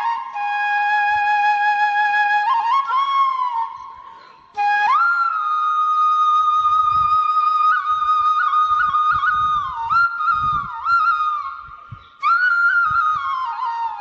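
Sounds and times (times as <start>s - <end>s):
flute music: 0.0s - 14.0s.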